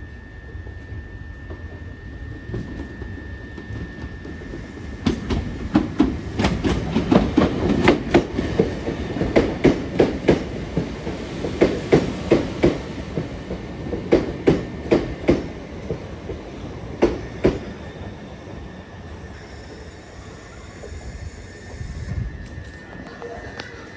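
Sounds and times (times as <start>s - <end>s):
low train rumble: 0.0s - 23.9s
train wheels clacking on rails: 1.4s - 23.9s.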